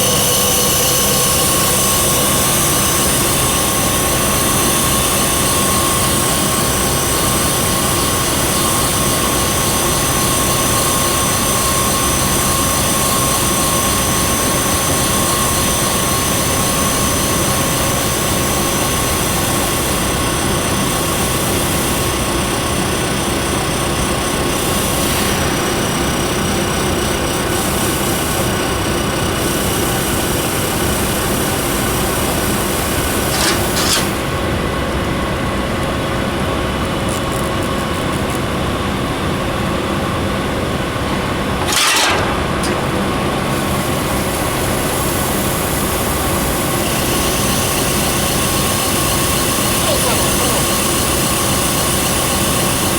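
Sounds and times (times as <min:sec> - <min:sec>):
grinding machine running: 0:00.0 - 0:38.3, 0:40.0 - 0:52.9.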